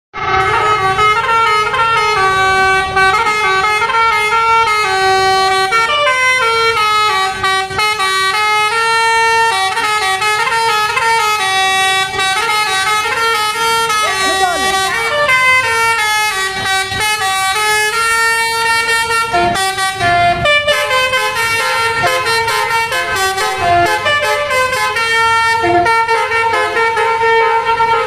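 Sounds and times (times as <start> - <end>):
bus horn playing a tune: 0.2 - 28.0.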